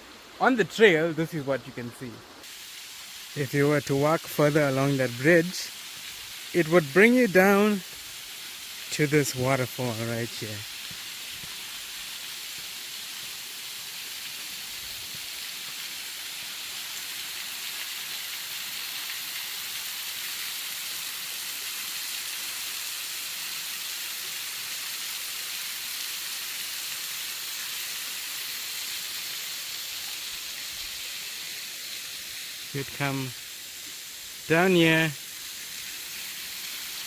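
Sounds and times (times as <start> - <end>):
small waterfall splashing: 0.0 - 37.0.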